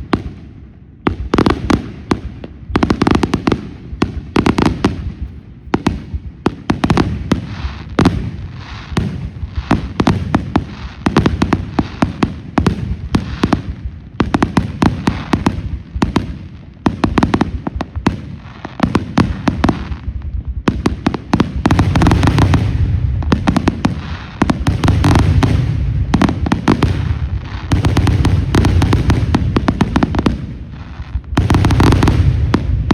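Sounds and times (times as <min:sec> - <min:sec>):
fireworks banging and crackling: 0:00.0 - 0:32.9.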